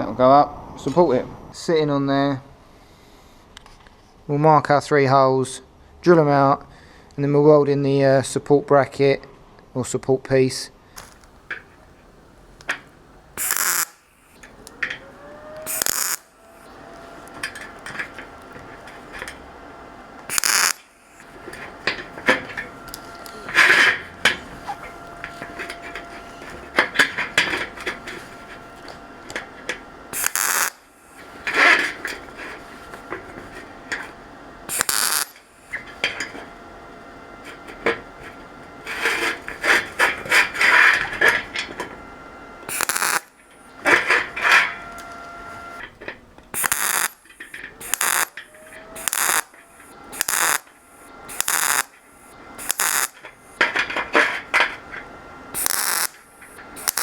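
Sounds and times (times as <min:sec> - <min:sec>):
faint steady whine: 0:00.0 - 0:57.0.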